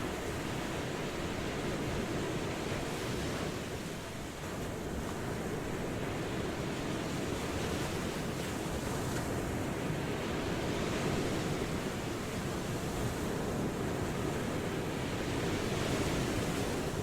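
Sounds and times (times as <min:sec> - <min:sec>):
ocean waves washing on shore: 0:00.0 - 0:17.0.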